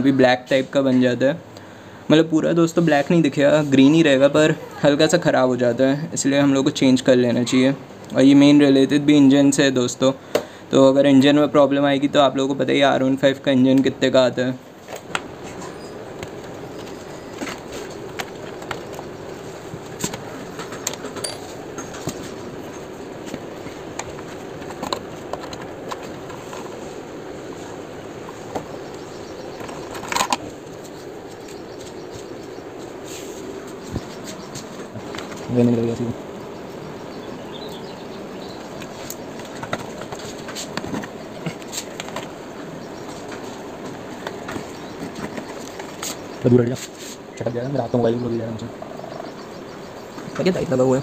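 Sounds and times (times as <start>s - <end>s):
steady background hiss: 0.0s - 51.0s
steady background noise: 0.0s - 51.0s.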